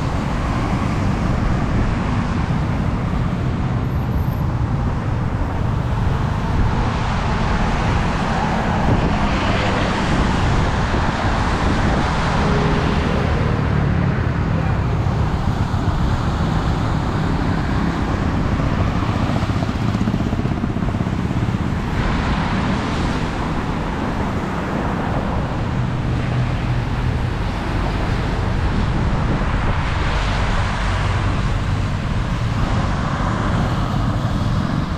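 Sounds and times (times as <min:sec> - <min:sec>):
traffic on wet road: 0:00.0 - 0:34.9
wind buffeting microphone: 0:00.0 - 0:34.9.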